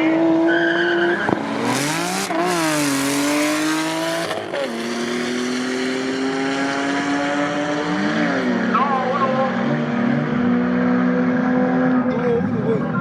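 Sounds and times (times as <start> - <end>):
race car engine revving: 0.0 - 12.7.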